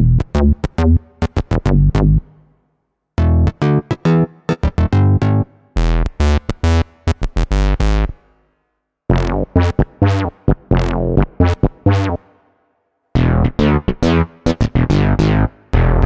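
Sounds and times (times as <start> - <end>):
punchy synth bass notes: 0.0 - 2.3, 3.2 - 8.2, 9.1 - 12.2, 13.2 - 16.0.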